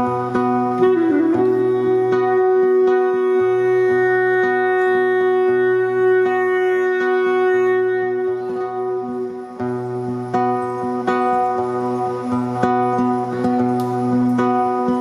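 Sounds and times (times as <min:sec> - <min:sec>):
plucked strings: 0:00.0 - 0:15.0.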